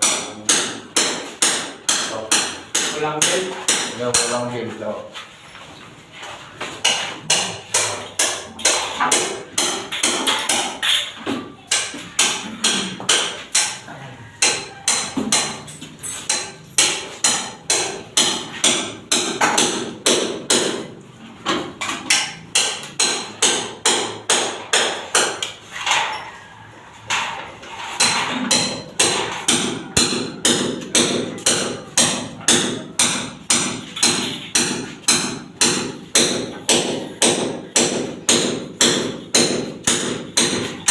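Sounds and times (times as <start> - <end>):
hammer striking: 0.0 - 4.4, 6.8 - 13.8, 14.4 - 20.9, 21.5 - 26.1, 27.1 - 40.9.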